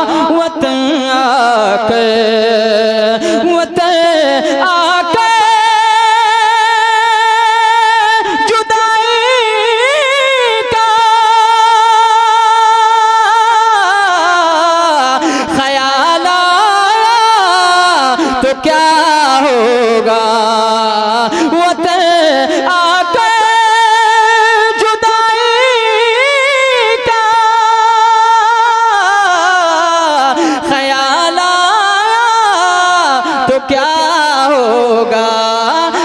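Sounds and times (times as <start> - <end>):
man singing into a microphone: 0.0 - 36.0.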